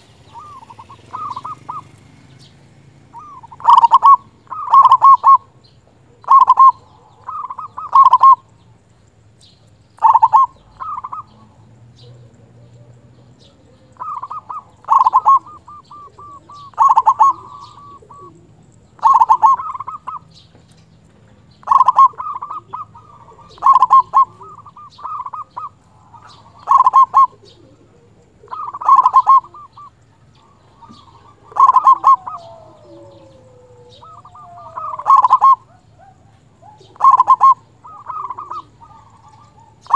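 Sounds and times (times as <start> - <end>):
dove cooing: 0.0 - 9.3, 10.0 - 39.9.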